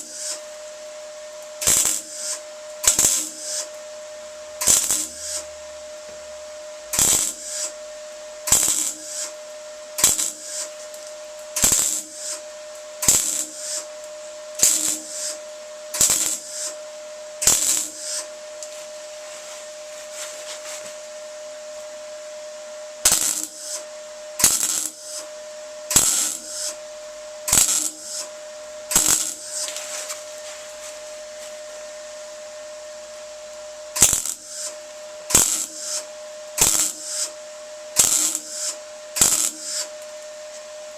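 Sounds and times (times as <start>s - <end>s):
faint hum: 0.0s - 39.2s.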